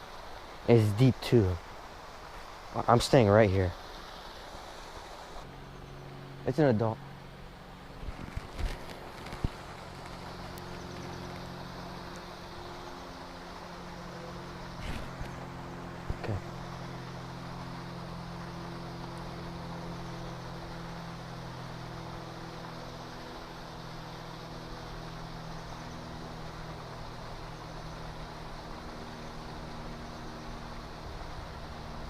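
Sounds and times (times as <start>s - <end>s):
constant rushing noise: 0.0s - 32.0s
mechanical hum: 3.6s - 32.0s.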